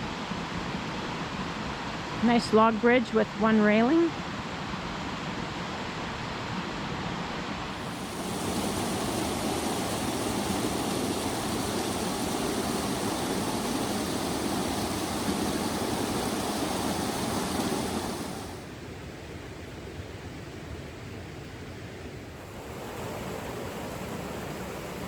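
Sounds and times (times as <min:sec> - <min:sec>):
creek water rushing: 0:04.1 - 0:25.0.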